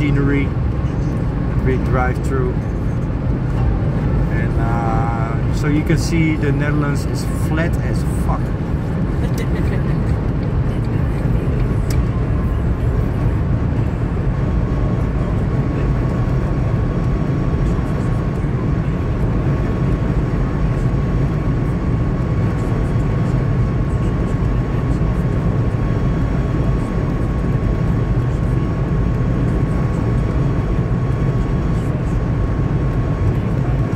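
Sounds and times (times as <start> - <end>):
tyre and wind rumble in car: 0.0 - 33.9.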